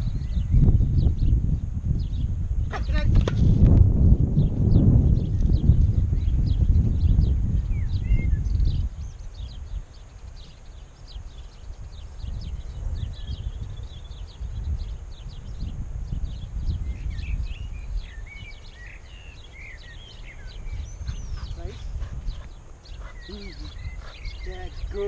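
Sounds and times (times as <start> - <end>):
small birds chirping: 0.0 - 3.2, 4.4 - 25.0
wind buffeting microphone: 0.0 - 25.0.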